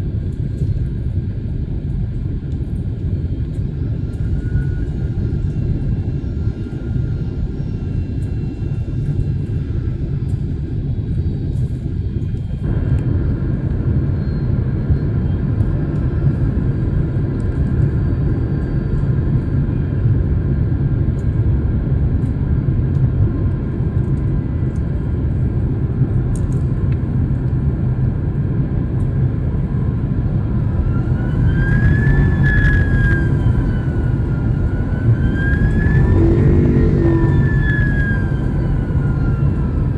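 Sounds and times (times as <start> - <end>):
airliner cabin rumble: 0.0 - 39.9
whine gliding in pitch: 2.0 - 21.4, 26.3 - 39.9.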